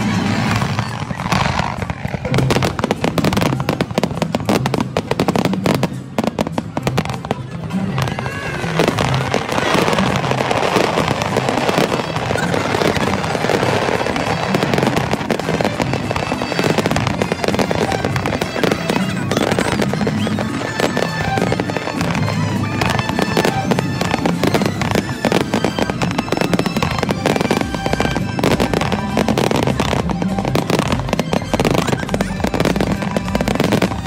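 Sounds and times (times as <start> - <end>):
fireworks bangs and crackling: 0.0 - 34.0
music playing: 0.0 - 34.0.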